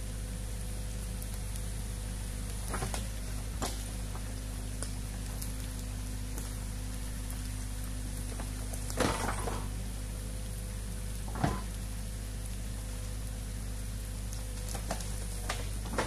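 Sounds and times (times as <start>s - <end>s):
constant hiss: 0.0s - 16.0s
diesel engine running: 0.0s - 16.0s.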